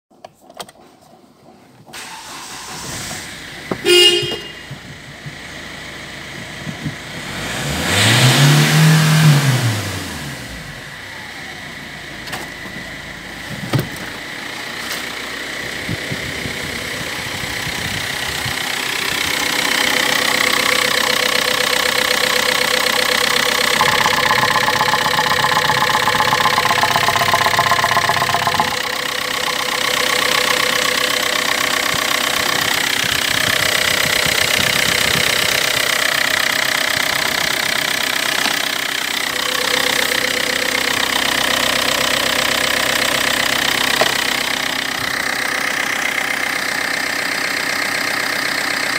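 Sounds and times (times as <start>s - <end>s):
diesel engine revving and idling: 2.0s - 48.9s.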